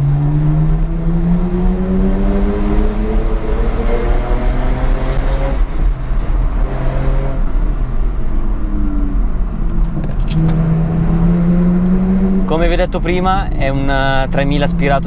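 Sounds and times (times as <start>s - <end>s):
car engine accelerating: 0.0s - 15.0s
road and wind rumble: 0.0s - 15.0s.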